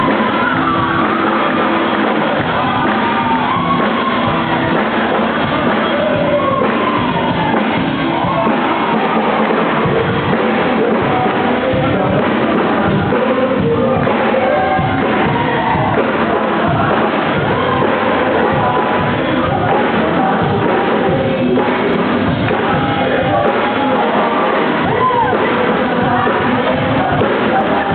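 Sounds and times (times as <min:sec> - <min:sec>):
music with singing voices: 0:00.0 - 0:27.9.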